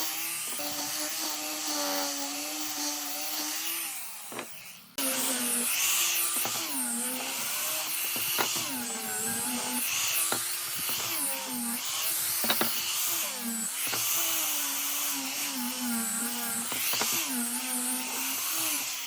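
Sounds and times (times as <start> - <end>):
power tool motor working wood: 0.0 - 19.0.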